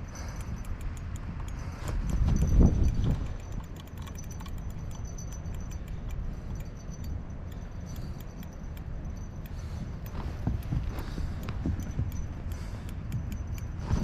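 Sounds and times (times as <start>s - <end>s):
faint metallic clicks and ticks: 0.0s - 14.0s
wind buffeting microphone: 0.0s - 14.0s.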